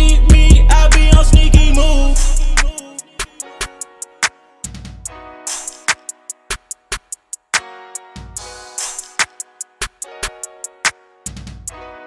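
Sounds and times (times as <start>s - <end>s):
hip-hop music: 0.0s - 12.0s.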